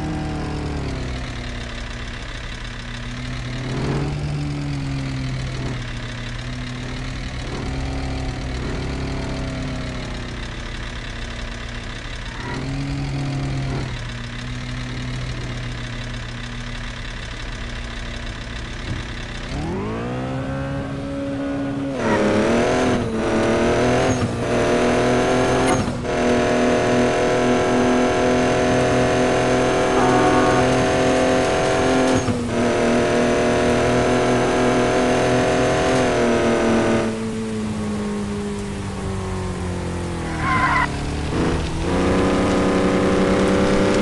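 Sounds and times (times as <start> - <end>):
vehicle engine idling and revving: 0.0 - 44.0.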